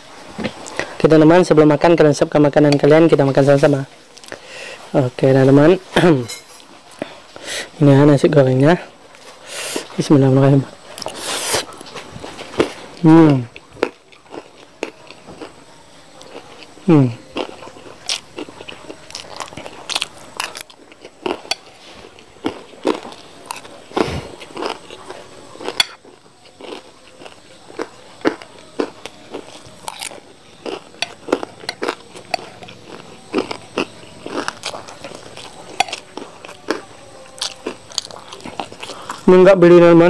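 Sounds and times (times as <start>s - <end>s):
crunchy chewing: 6.6s - 40.0s.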